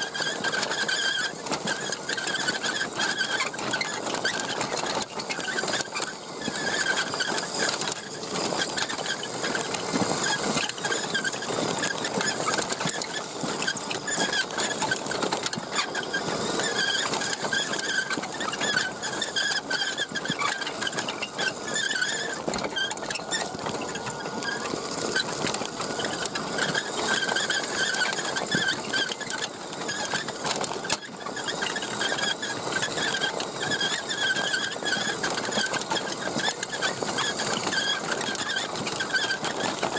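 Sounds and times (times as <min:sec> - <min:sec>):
small tyres crunching on gravel: 0:00.0 - 0:39.9
toy truck electric motor whine: 0:00.0 - 0:39.9.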